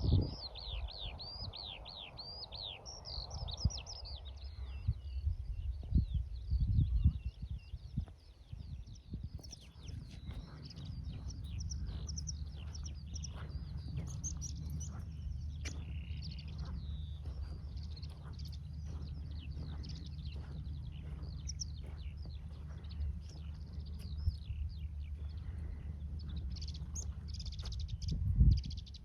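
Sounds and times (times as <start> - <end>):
skylarks singing: 0.0 - 29.0
steady low rumble: 0.0 - 29.0.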